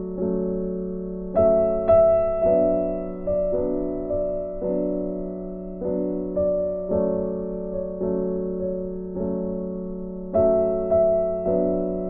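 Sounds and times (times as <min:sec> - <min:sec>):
slow piano piece: 0:00.0 - 0:12.0.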